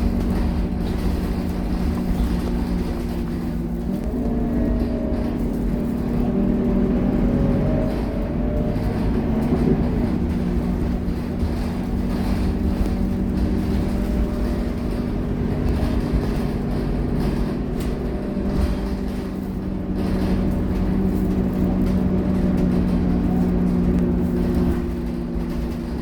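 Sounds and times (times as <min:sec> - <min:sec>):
bus diesel engine running: 0:00.0 - 0:26.0
road noise: 0:00.0 - 0:26.0.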